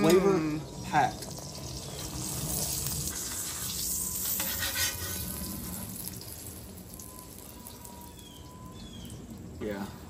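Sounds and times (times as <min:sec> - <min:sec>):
tortillas sizzling on a griddle: 0:00.0 - 0:10.0.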